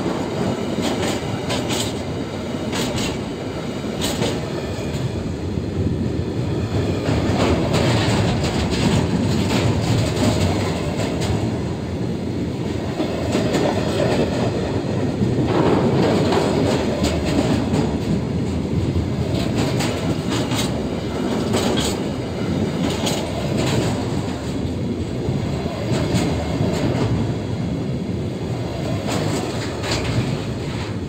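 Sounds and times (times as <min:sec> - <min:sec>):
wheels clicking over rail joints: 0:00.0 - 0:05.2, 0:06.7 - 0:11.7, 0:12.6 - 0:27.3, 0:28.6 - 0:31.0.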